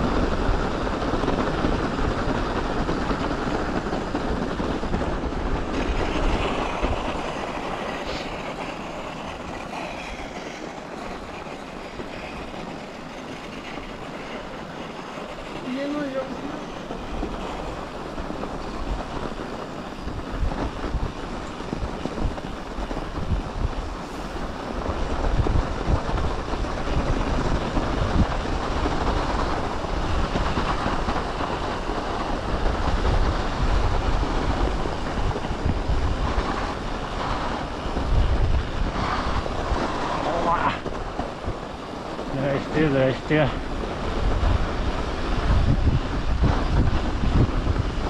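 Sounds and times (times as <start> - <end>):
bike rolling over snow and ice: 0.0 - 48.0
wind buffeting microphone: 0.0 - 48.0.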